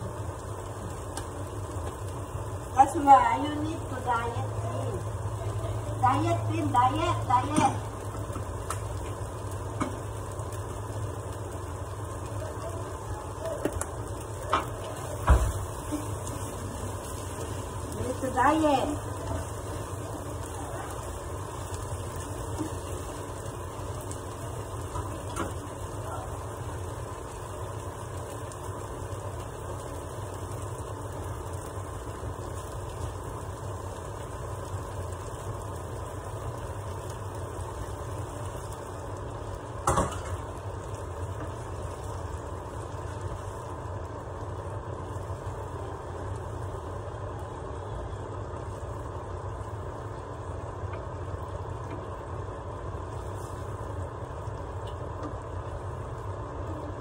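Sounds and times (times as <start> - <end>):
risotto simmering in a pan: 0.0 - 57.0.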